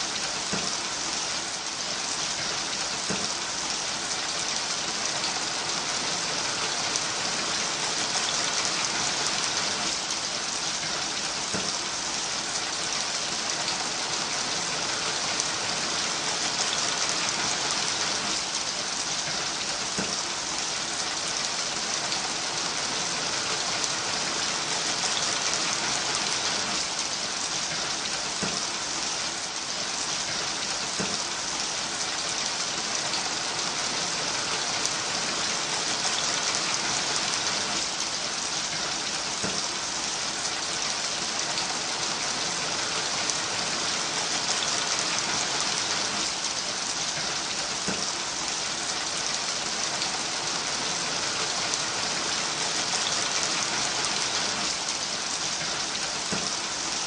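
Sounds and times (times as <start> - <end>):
heavy rain on a roof: 0.0 - 57.0
water streaming off eave: 0.0 - 57.0.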